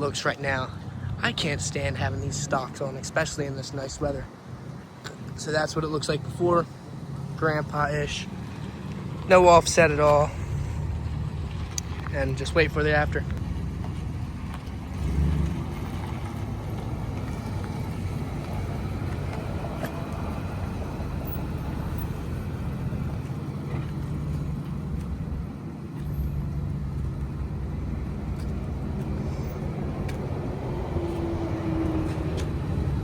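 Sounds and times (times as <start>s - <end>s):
vehicle engine running: 6.3s - 33.0s.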